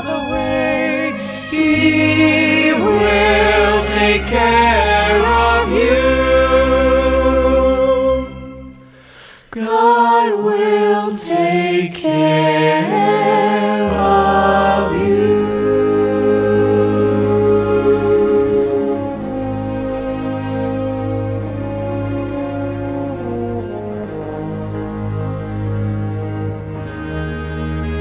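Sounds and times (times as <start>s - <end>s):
choir singing: 0.0s - 8.9s, 9.5s - 28.0s
string orchestra: 0.0s - 28.0s.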